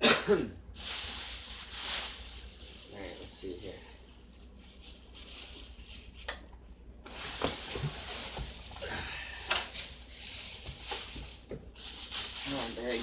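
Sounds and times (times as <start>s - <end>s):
plastic bag crinkling and rustling: 0.7s - 13.0s.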